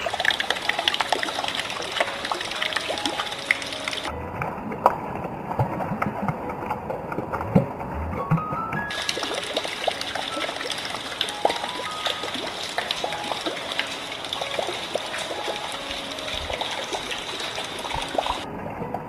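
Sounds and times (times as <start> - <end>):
rain water splashing into buckets: 0.0 - 18.8.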